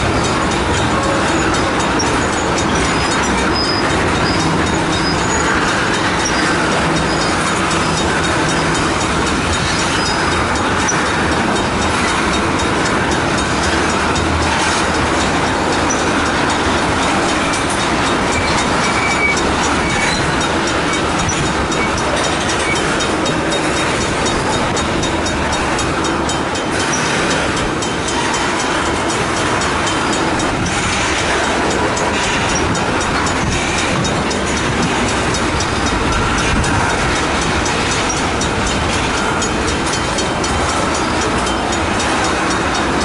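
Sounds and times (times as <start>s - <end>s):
train wheels on rails: 0.0s - 43.0s.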